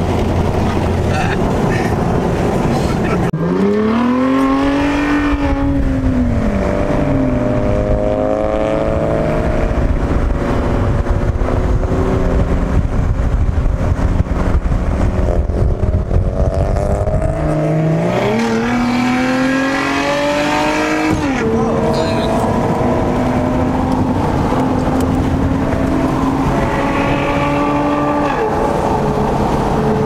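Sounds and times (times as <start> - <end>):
car engine accelerating: 0.0 - 30.0
road and wind noise: 0.0 - 30.0.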